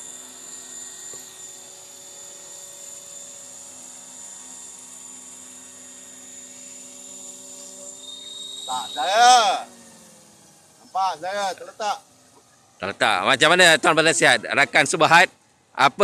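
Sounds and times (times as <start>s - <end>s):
rc helicopter whining: 0.0s - 16.0s.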